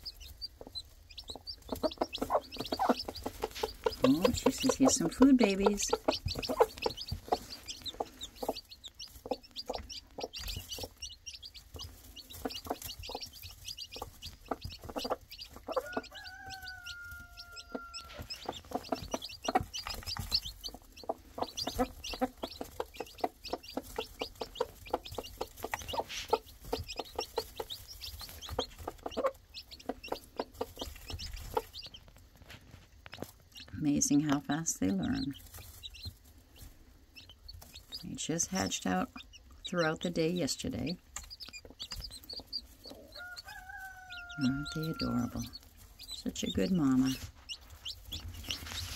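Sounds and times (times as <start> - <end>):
hen clucking: 0.0 - 32.3, 33.0 - 48.9
chicks peeping: 0.0 - 48.9.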